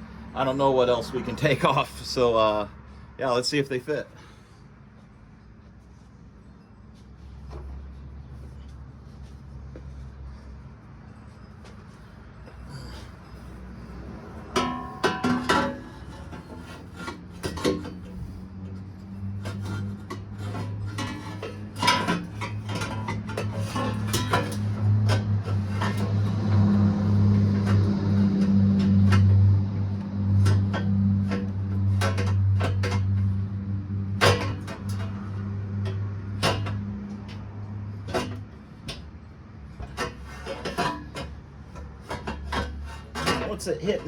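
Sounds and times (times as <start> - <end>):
metal exhaust pipes clanking and scraping: 0.0 - 44.0.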